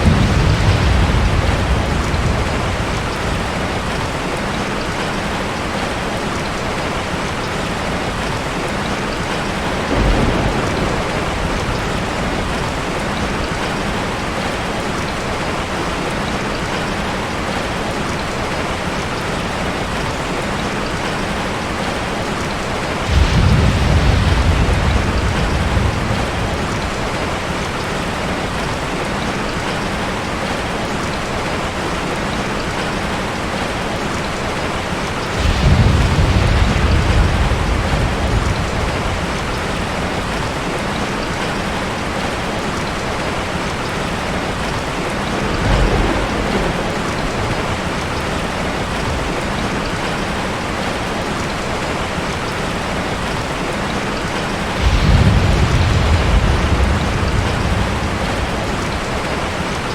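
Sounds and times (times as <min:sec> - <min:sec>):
thunder rumbling: 0:00.0 - 0:20.2, 0:21.6 - 0:29.7, 0:31.6 - 0:52.5, 0:53.2 - 0:59.9
steady rain: 0:00.0 - 0:59.9.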